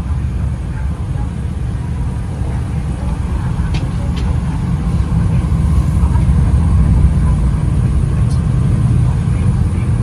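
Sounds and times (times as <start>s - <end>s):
train rumble inside carriage: 0.0s - 10.0s.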